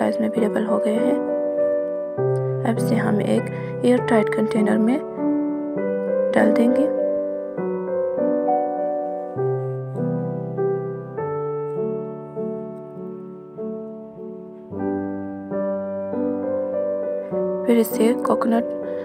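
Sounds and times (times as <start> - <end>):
gentle solo piano chords: 0.0 - 19.0.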